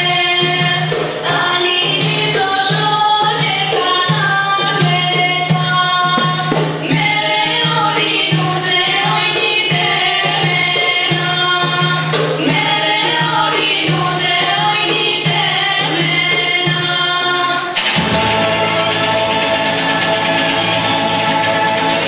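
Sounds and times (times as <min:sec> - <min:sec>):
drum beat: 0:00.0 - 0:22.0
instrumental music: 0:00.0 - 0:22.0
women singing folk song: 0:00.0 - 0:22.0.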